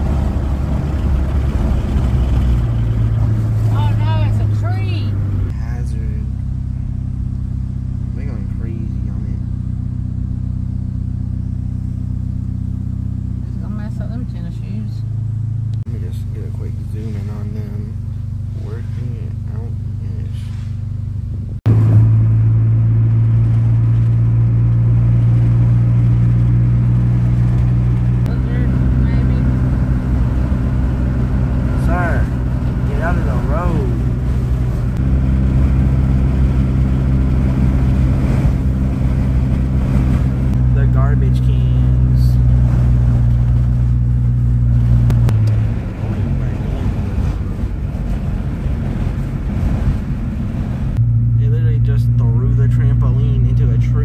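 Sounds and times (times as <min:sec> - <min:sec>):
car engine drone: 0:00.0 - 0:54.0
road noise inside car: 0:00.0 - 0:54.0.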